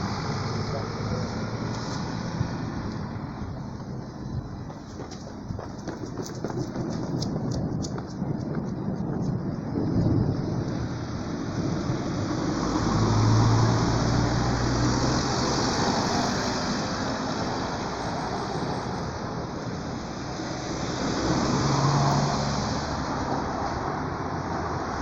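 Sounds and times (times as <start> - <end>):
vehicles passing on wet street: 0.0 - 5.5, 7.2 - 25.0.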